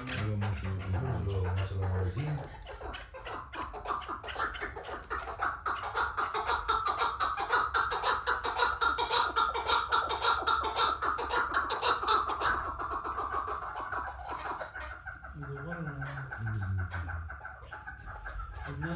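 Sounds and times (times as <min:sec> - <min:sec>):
partridge clucking calls: 0:00.0 - 0:18.9.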